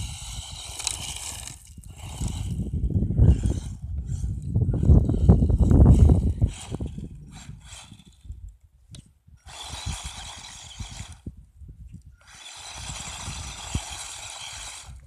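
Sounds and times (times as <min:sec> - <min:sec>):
electric motor whining: 0:00.0 - 0:08.4, 0:09.4 - 0:11.4, 0:12.2 - 0:15.0.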